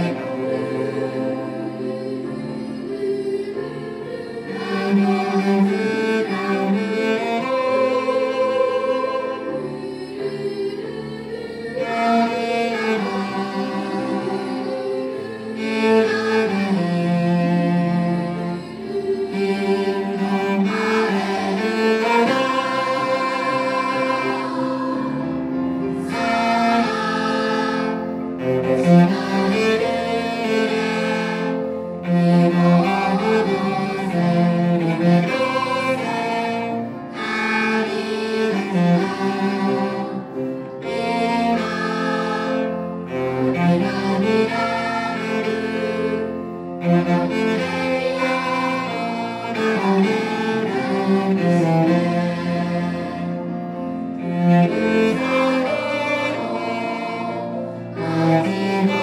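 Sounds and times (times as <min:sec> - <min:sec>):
cello melody: 0:00.0 - 0:59.0.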